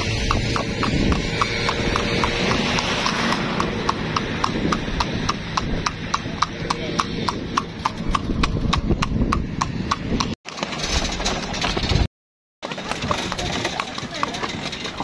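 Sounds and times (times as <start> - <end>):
horse hooves on pavement: 0.0 - 15.0.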